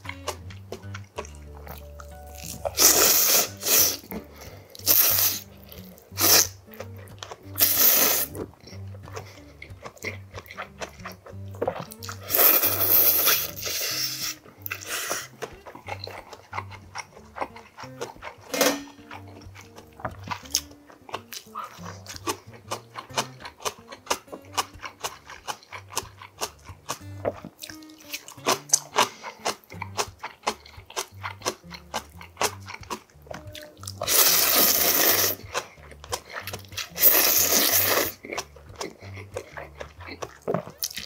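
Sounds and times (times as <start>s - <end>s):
close chewing with mouth clicks: 0.0s - 41.0s
soft background music: 0.0s - 41.0s
slurping noodles: 0.1s - 41.0s.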